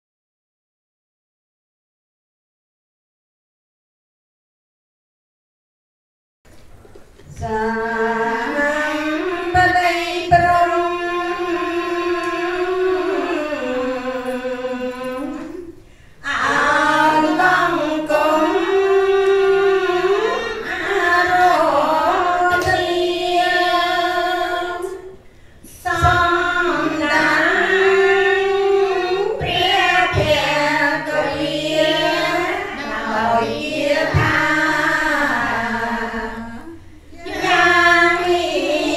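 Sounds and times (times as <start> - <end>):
women chanting into a microphone: 7.3 - 38.9.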